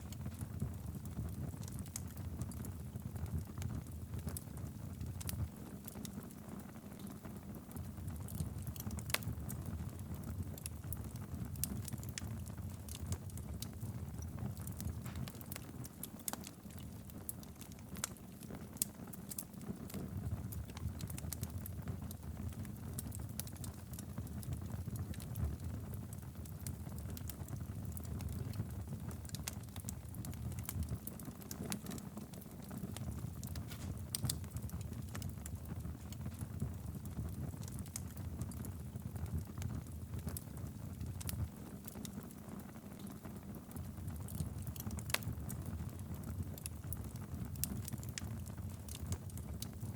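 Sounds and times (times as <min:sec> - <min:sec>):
fire crackling and popping: 0:00.0 - 0:49.9
fire flames rumbling: 0:07.6 - 0:49.9.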